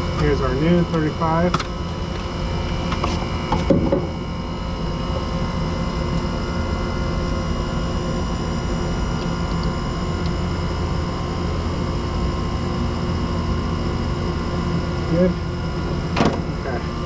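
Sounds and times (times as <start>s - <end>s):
machinery humming with high tones: 0.0s - 17.0s.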